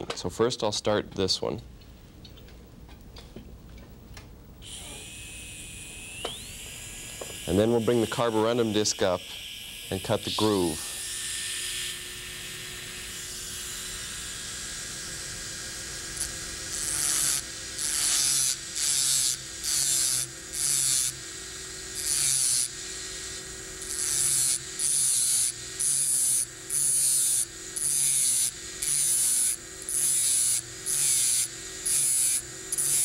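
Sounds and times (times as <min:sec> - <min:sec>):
dental handpieces whining: 0:04.6 - 0:33.0.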